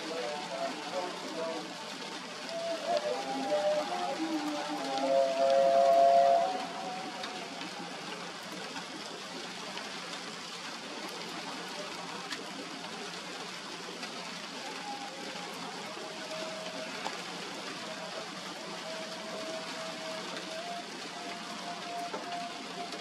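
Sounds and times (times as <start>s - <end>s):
rain and wind hiss: 0.0s - 23.0s.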